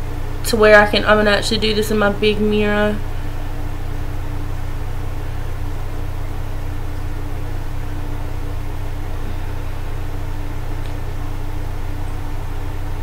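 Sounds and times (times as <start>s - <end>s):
faint constant tone: 0.0s - 13.0s
low hum: 0.0s - 13.0s.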